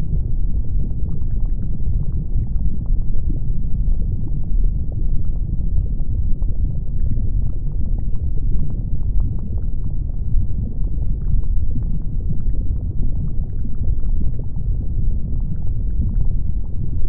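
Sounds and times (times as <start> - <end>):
crackles and pops: 0.0 - 17.0.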